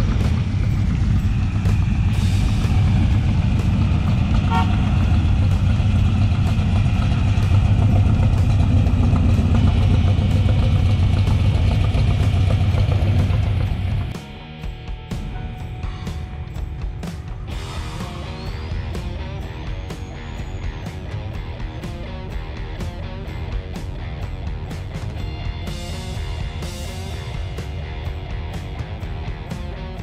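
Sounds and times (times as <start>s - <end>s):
car engines and exhaust rumbling: 0.0s - 30.0s
drum-beat music: 0.0s - 30.0s.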